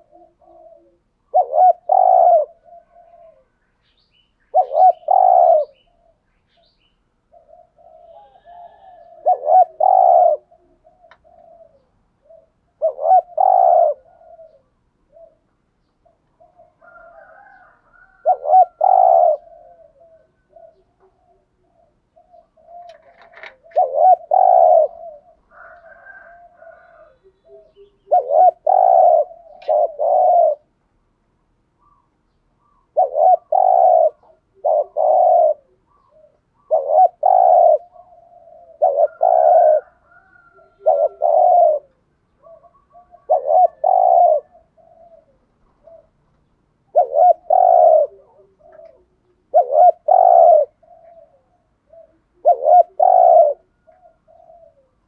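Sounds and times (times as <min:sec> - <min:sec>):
dove cooing: 0:00.0 - 0:30.8, 0:31.8 - 0:55.0
softer lower dove coos: 0:00.0 - 0:30.8, 0:31.7 - 0:55.0.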